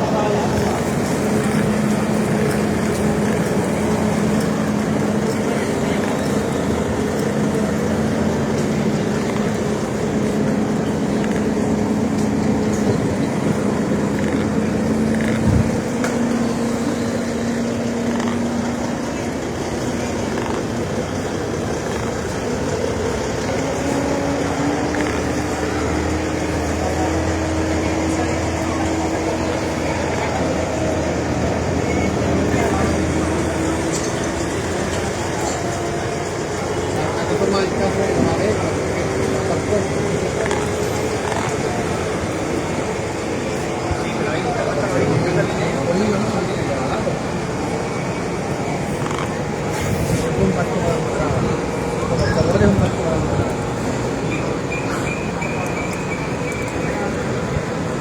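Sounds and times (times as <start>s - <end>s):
heavy vehicle engine running: 0.0s - 58.0s
street noise: 0.0s - 58.0s.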